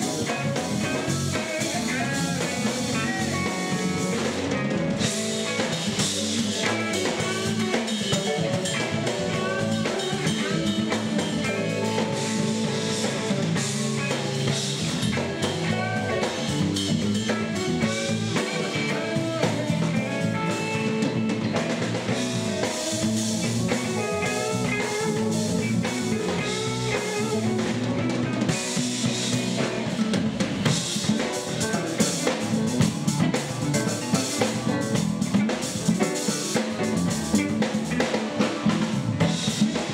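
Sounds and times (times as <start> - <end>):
drum kit beat: 0.0 - 39.9
electric bass: 0.0 - 39.9
electric guitar: 0.0 - 39.9
melodic lead line: 0.0 - 39.9.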